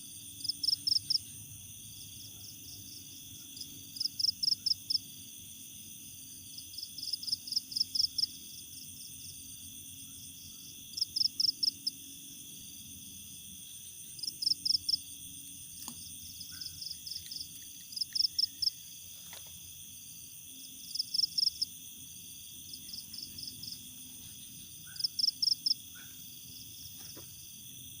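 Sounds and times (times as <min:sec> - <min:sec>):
insects trilling: 0:00.0 - 0:28.0
insect quick chirps: 0:00.2 - 0:05.1, 0:06.5 - 0:09.3, 0:12.6 - 0:28.0.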